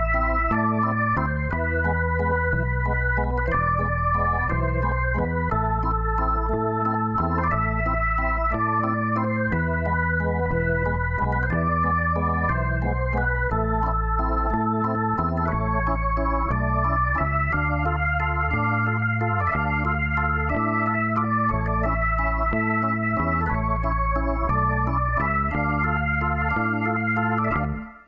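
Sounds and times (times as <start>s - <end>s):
held bass line: 0.0s - 28.0s
organ-like keyboard chords: 0.0s - 28.0s.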